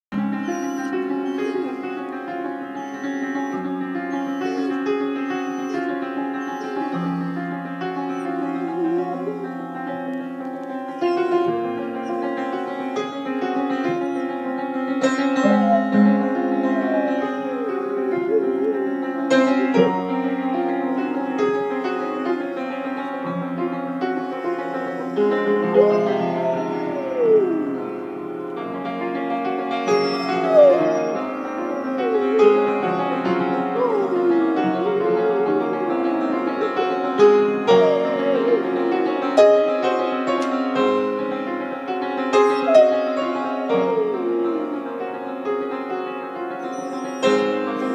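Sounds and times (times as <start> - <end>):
piano notes and chords: 0.1 - 47.9
dog howling: 0.2 - 10.2, 10.9 - 23.0, 23.6 - 28.4, 29.8 - 40.4, 42.4 - 45.3, 46.6 - 47.9.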